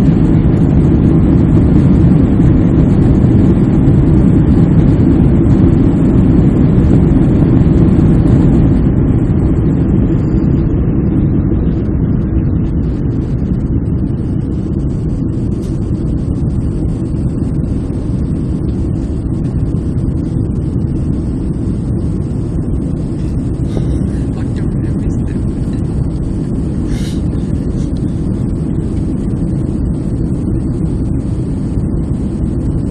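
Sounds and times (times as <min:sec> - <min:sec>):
airliner engine rumble: 0:00.0 - 0:32.9
rushing air: 0:00.0 - 0:32.9.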